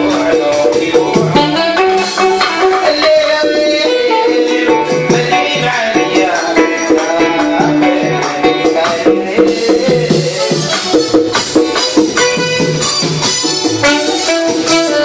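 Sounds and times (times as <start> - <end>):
instrumental melody line: 0.0 - 15.0
steady percussion: 0.0 - 15.0.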